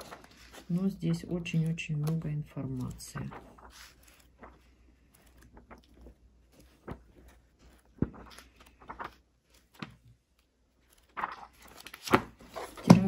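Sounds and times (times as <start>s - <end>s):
book pages being turned: 0.0s - 13.0s.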